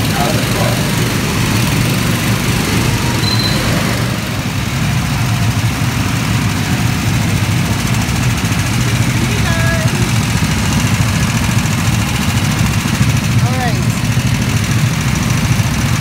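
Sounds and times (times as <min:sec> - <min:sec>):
go-kart engines idling: 0:00.0 - 0:16.0.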